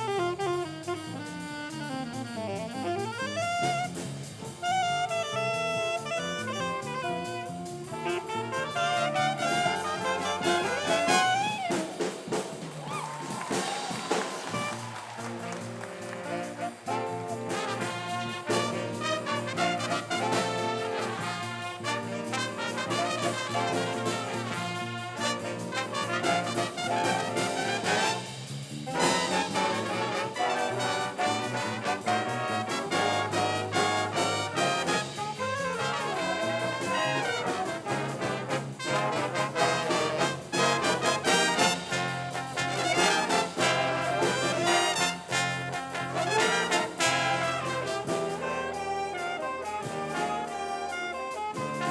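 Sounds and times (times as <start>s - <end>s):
school band playing brass piece: 0.0s - 51.9s
trumpets and trombones: 0.0s - 51.9s.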